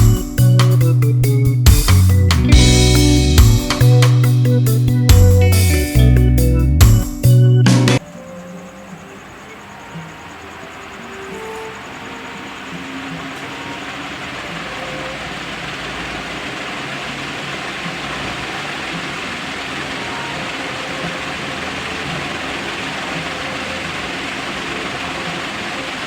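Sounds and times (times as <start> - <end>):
ceiling fan running: 0.0 - 26.0.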